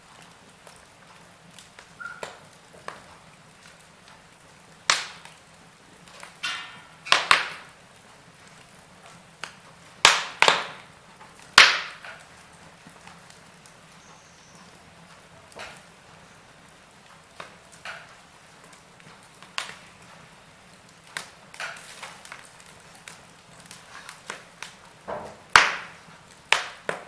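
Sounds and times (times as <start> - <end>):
hiss of flames: 0.0 - 27.0
wood fire crackling: 0.0 - 27.0.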